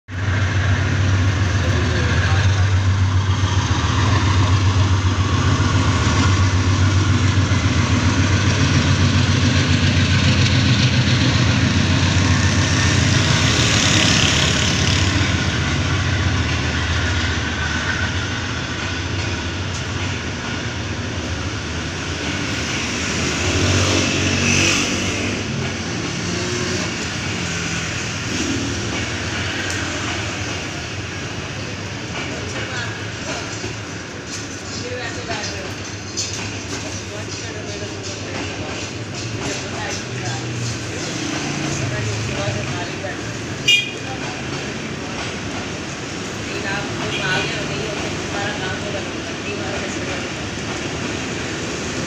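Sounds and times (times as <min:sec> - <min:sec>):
locomotive engine drone: 0:00.1 - 0:52.0
train coaches rumbling on track: 0:00.1 - 0:52.0.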